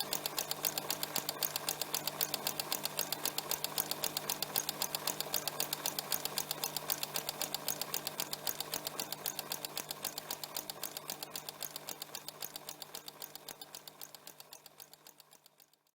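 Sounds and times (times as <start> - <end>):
sewing machine running: 0.0 - 15.6.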